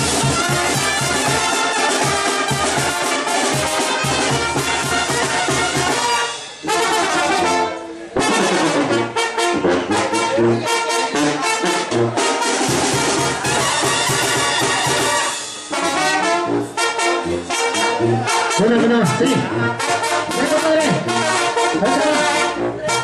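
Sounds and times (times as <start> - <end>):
brass band playing: 0.0 - 23.0.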